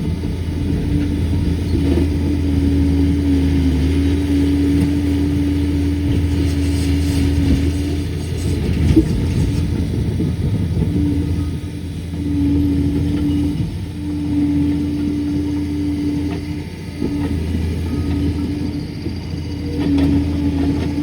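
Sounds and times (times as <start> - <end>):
dozer diesel engine running: 0.0 - 21.0
engine whine: 0.0 - 21.0.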